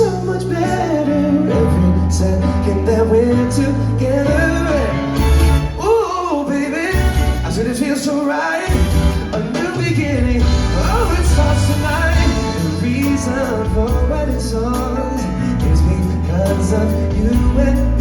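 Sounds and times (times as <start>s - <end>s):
strong bass line: 0.0s - 6.1s, 6.9s - 7.8s, 8.7s - 18.0s
live band music: 0.0s - 18.0s
man singing wordless vocal runs: 0.0s - 18.0s.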